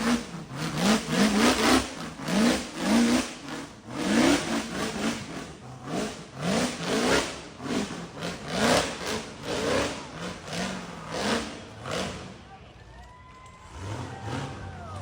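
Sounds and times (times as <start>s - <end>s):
engine revving in bursts: 0.0s - 12.5s, 13.6s - 15.0s.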